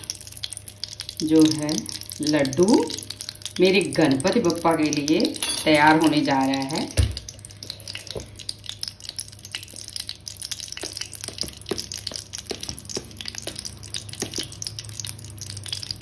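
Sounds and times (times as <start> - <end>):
hot ghee crackling and popping: 0.0 - 16.0
low steady hum: 0.0 - 16.0.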